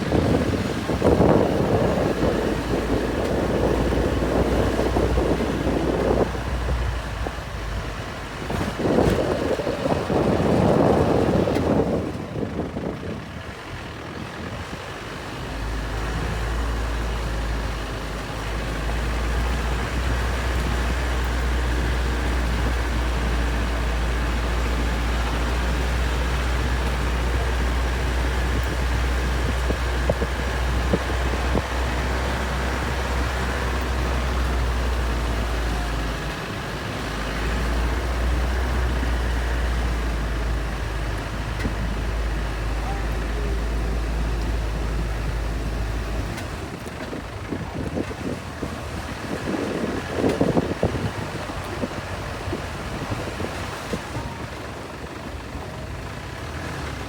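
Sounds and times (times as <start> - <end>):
rushing road noise: 0.0 - 57.0
truck engine and road rumble: 0.0 - 57.0.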